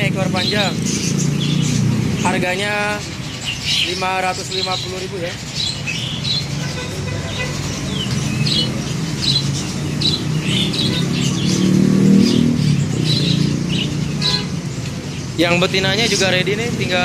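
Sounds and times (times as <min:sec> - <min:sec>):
low rumble of passing traffic: 0:00.0 - 0:17.0
songbirds chirping and squawking: 0:00.0 - 0:17.0.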